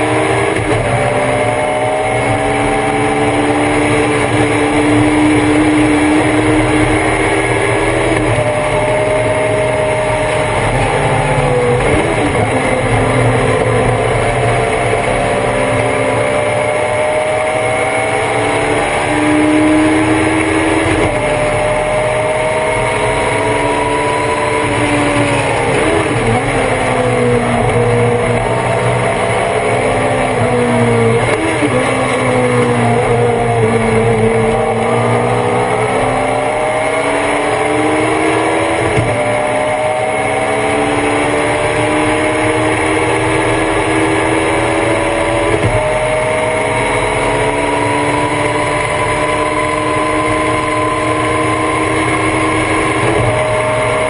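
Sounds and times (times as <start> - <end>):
race car engine revving: 0.0 - 54.0
wind and road noise: 0.0 - 54.0.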